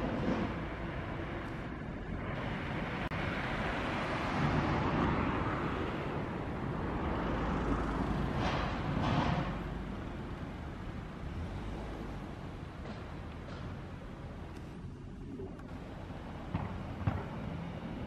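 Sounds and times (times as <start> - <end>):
cars passing on street: 0.0 - 18.0.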